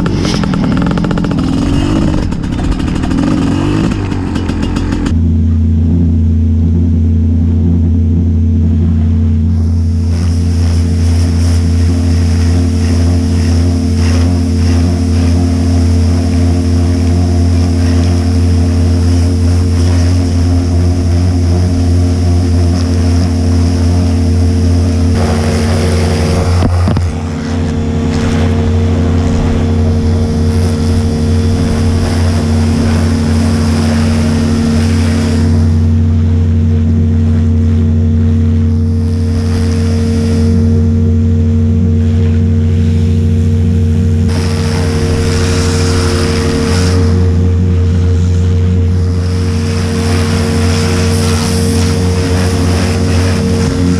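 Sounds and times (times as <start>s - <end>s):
pressure washer motor running: 0.0s - 53.9s.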